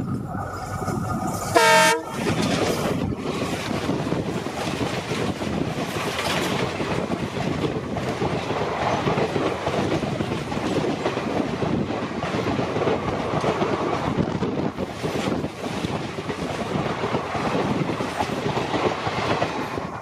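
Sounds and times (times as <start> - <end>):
train wheels rushing on rails: 0.0 - 20.0.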